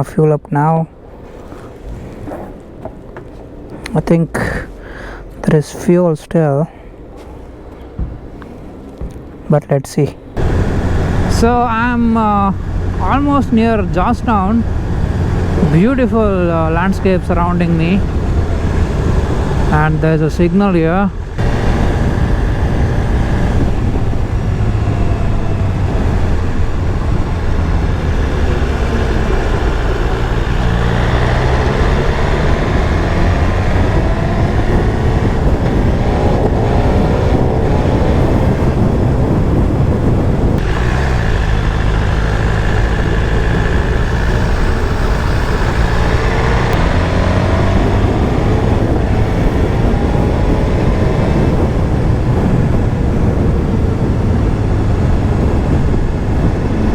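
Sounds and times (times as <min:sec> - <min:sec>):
road rumble: 0:00.0 - 0:56.9
wind: 0:00.0 - 0:56.9
motorcycle engine accelerating: 0:10.4 - 0:20.5, 0:21.1 - 0:56.9.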